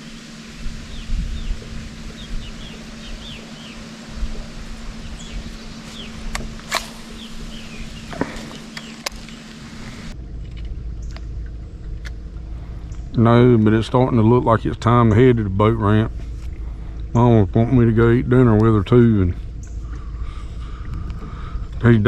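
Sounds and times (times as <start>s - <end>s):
small birds chirping: 0.0s - 10.2s, 10.9s - 22.0s
low outdoor rumble: 0.0s - 22.0s
steady low hum: 0.0s - 22.0s.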